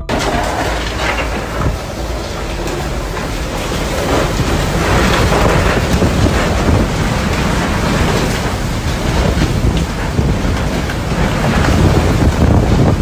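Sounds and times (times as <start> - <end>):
driving rain: 0.0 - 13.0
gusting wind: 0.0 - 13.0
wind buffeting microphone: 0.0 - 13.0.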